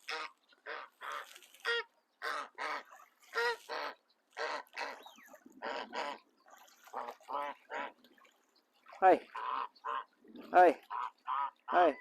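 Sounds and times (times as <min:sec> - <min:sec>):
geese honking: 0:00.0 - 0:08.0, 0:09.2 - 0:12.0.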